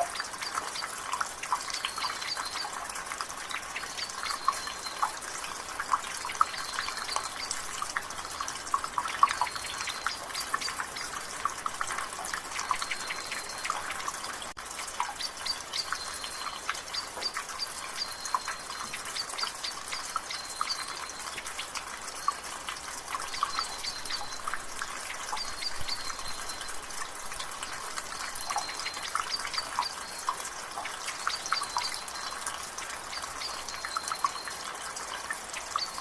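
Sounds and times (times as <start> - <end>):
water dripping from gutter: 0.0 - 36.0.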